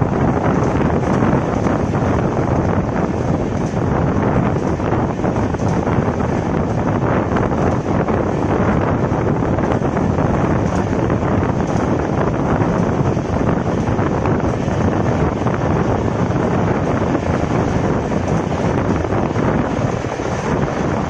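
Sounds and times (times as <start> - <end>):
train wheels rumbling on rails: 0.0 - 21.0
wind rushing over microphone: 0.0 - 21.0.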